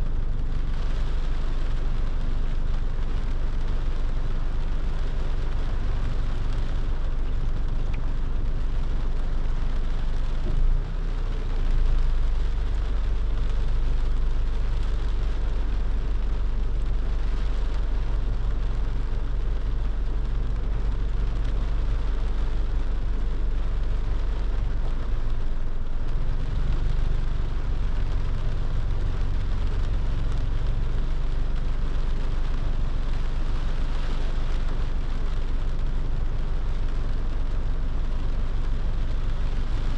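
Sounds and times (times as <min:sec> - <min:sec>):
hiss of rain and tyre spray: 0:00.0 - 0:39.9
low road rumble: 0:00.0 - 0:39.9.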